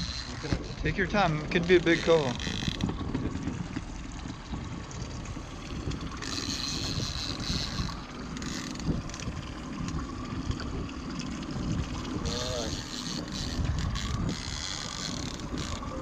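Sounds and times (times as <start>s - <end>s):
water slapping against hull: 0.0s - 16.0s
wind buffeting microphone: 0.0s - 16.0s.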